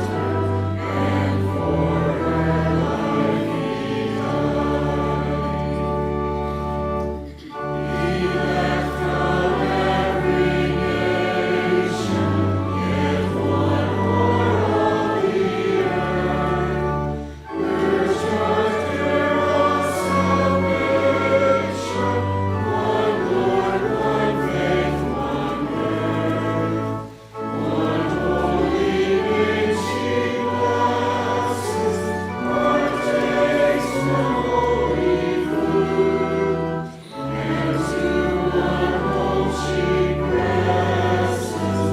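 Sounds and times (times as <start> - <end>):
choir singing a hymn: 0.0 - 41.9.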